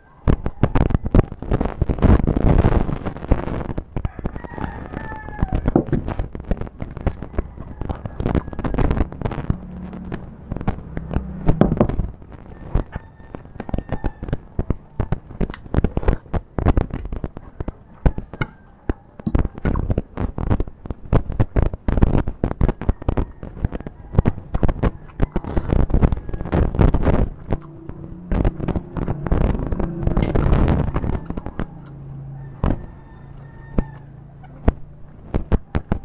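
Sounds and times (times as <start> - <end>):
sharp crackling clicks: 0.3 - 36.0.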